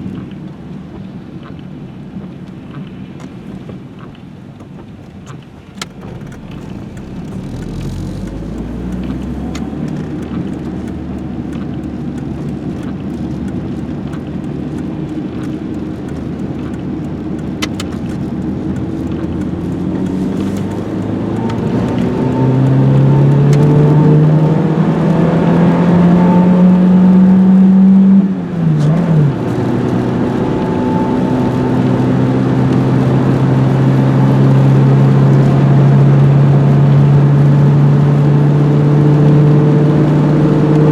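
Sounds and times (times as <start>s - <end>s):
car engine accelerating: 4.8s - 40.9s.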